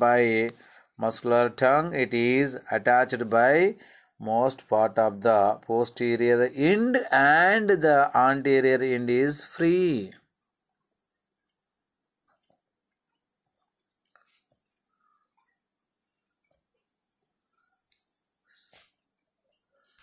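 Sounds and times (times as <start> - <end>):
cricket trilling: 0.0 - 20.0.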